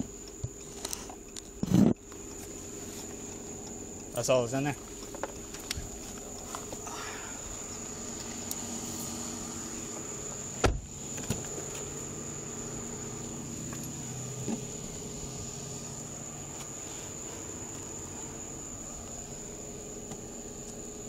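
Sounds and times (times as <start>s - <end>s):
faint high whine: 0.0s - 21.0s
vehicle engine idling: 0.0s - 21.0s.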